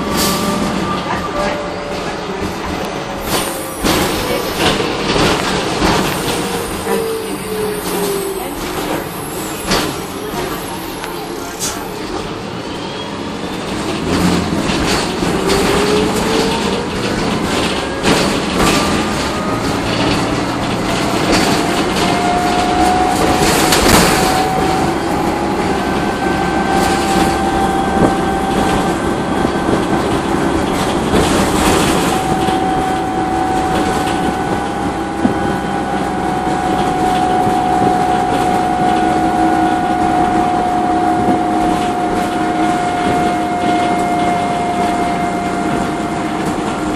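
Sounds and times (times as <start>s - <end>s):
bus transmission whine: 0.0s - 46.9s
engine and road rumble: 0.0s - 46.9s.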